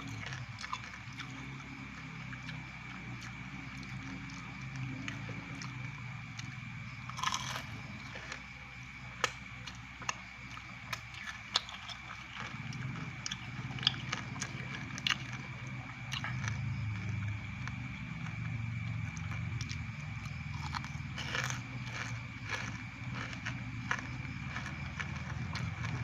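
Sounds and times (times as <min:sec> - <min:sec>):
chewing and crunching: 0:00.0 - 0:26.0.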